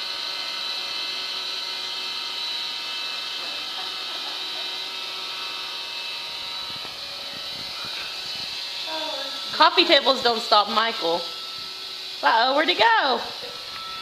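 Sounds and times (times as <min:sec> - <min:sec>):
robot vacuum motor hum: 0:00.0 - 0:14.0.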